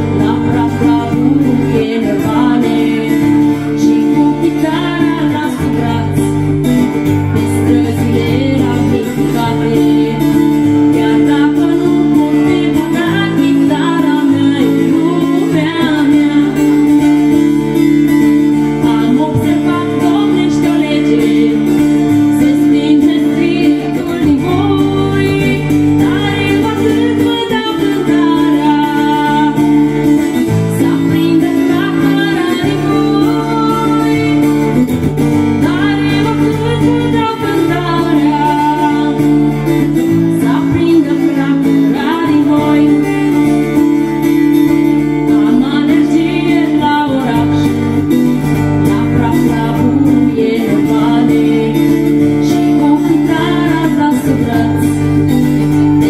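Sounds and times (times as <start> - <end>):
acoustic guitar: 0.0 - 56.0
woman singing a folk song: 0.0 - 56.0.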